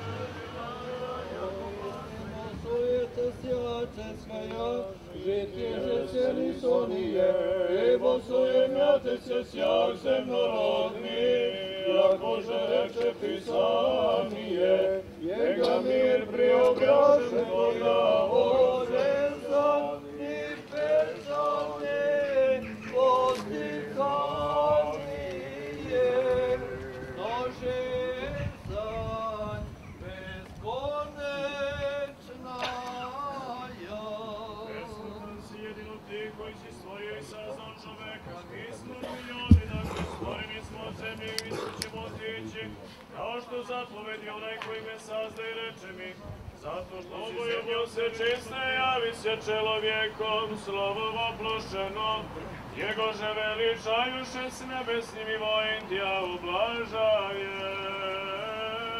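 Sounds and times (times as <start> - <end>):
men chanting prayers: 0.0 - 58.9.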